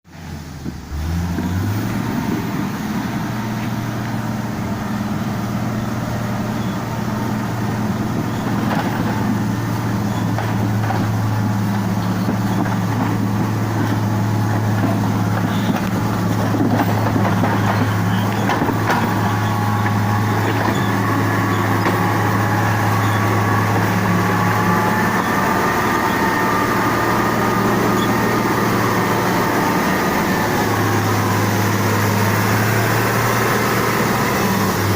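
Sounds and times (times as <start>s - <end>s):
diesel engine droning: 0.1s - 34.9s.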